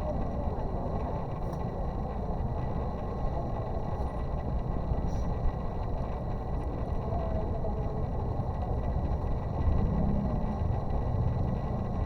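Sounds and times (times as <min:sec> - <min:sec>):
low background rumble: 0:00.1 - 0:12.0.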